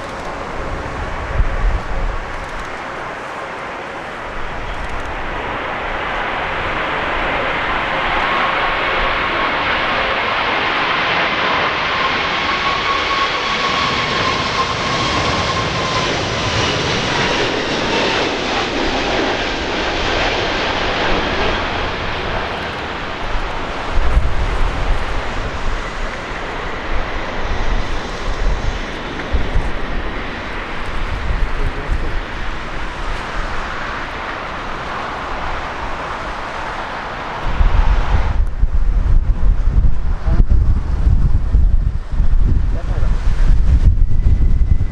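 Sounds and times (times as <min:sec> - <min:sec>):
jet engines passing overhead: 0:00.0 - 0:44.9
wind buffeting microphone: 0:00.0 - 0:44.9.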